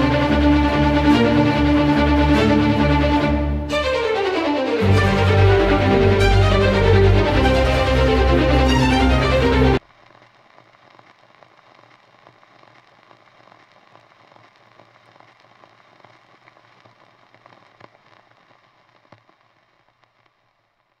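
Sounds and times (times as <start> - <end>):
vinyl record crackle and hiss: 0.0 - 21.0.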